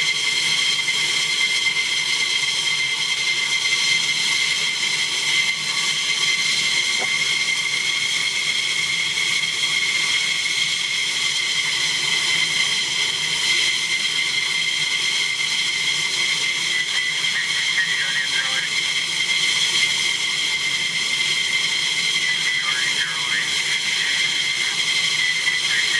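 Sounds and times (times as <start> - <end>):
jet engines idling: 0.0 - 25.9.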